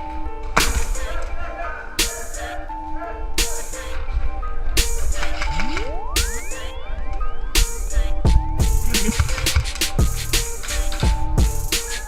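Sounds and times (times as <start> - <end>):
electronic dance music: 0.6 - 4.1, 4.8 - 12.0.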